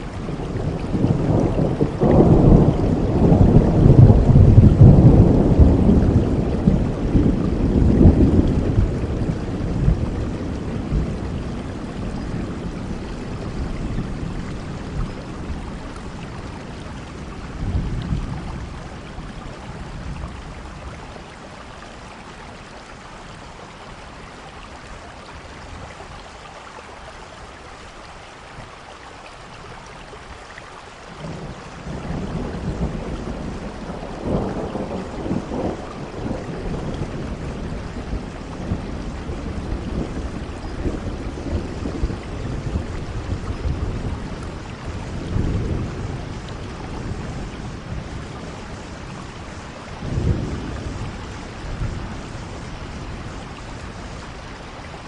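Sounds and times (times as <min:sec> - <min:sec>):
rolling thunder: 0:00.0 - 0:21.2, 0:31.2 - 0:55.0
steady rain: 0:00.0 - 0:55.0.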